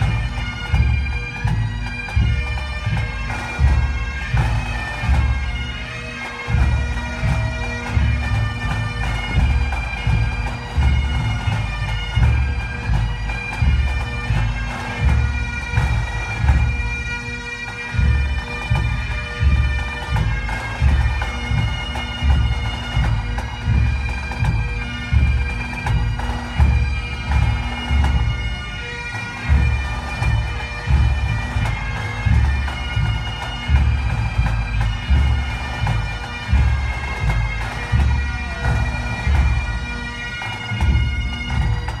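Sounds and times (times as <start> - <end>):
bagpipes playing slow tune: 0.0 - 42.0.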